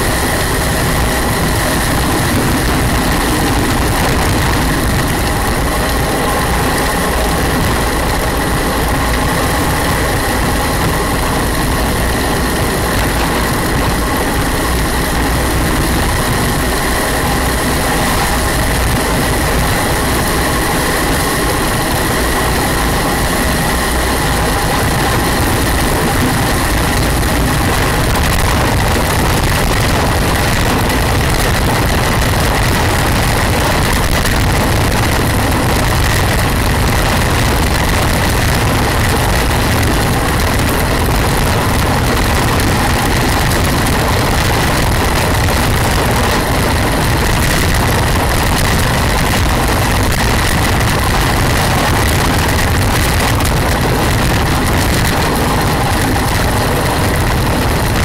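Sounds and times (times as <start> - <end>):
rolling road noise: 0.0 - 58.0
wind buffeting microphone: 0.0 - 58.0.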